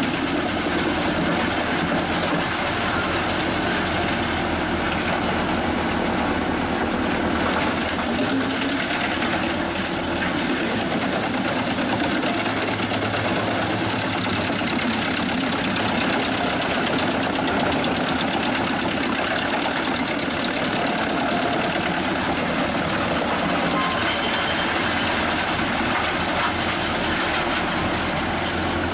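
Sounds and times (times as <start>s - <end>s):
wood chipper running: 0.0s - 28.9s.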